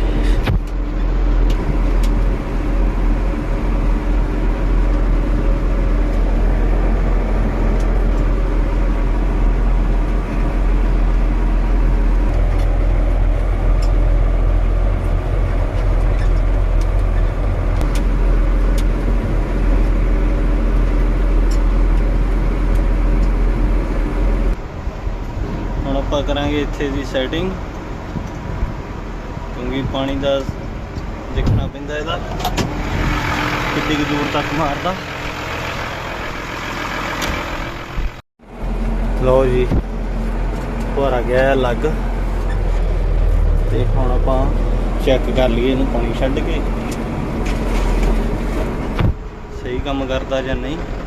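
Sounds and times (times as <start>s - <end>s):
tractor engine droning: 0.0s - 26.2s, 27.0s - 51.0s.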